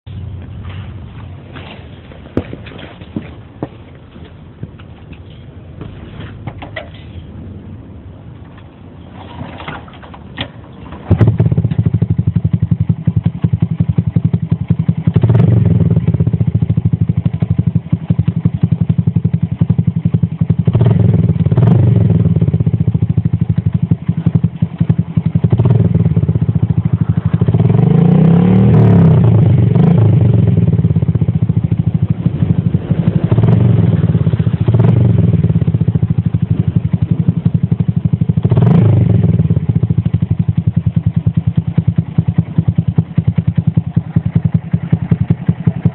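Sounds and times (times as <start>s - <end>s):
motorcycle engine starting and revving: 8.4s - 45.9s.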